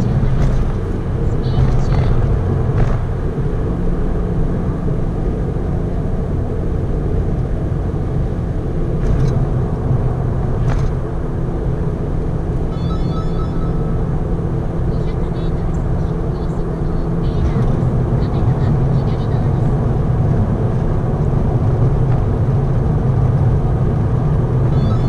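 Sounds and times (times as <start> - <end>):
car engine cruising: 0.0 - 25.0
tyre and road noise: 0.0 - 25.0.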